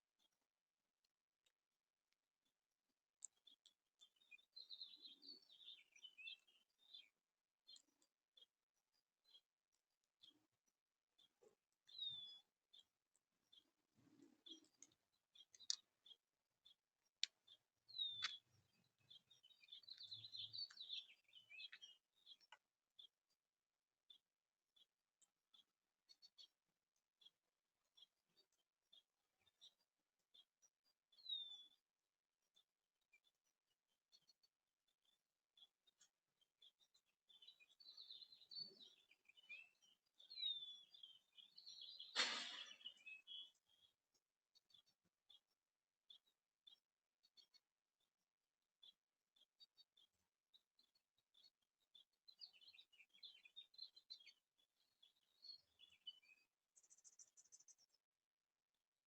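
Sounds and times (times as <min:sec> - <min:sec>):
warbling bird song: 0:00.0 - 0:48.0, 0:48.7 - 0:58.2
songbirds chirping: 0:00.0 - 0:59.0.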